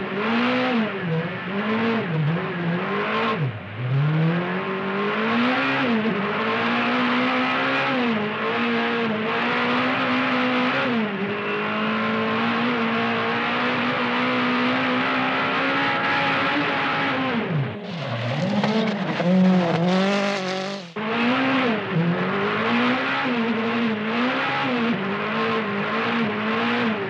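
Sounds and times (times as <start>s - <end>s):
rally car engine at full throttle: 0.0s - 27.0s.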